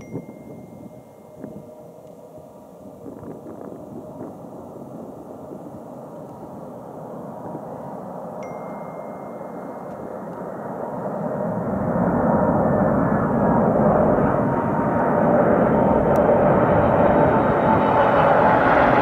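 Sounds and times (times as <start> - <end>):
faint jet whine: 0.0 - 19.0
jet engines rushing: 0.0 - 19.0.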